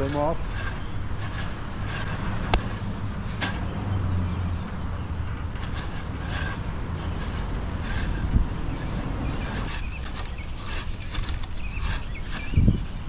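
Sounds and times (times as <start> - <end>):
bow saw rasping through wood: 0.0 - 3.6, 5.6 - 13.0.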